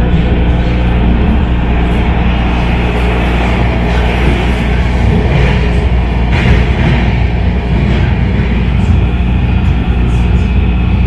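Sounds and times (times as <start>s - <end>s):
subway train wheels rumbling on rails: 0.0s - 11.0s.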